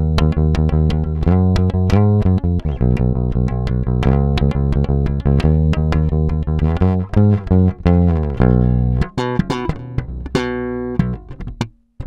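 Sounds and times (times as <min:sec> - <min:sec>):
electric bass fingerstyle: 0:00.0 - 0:12.0.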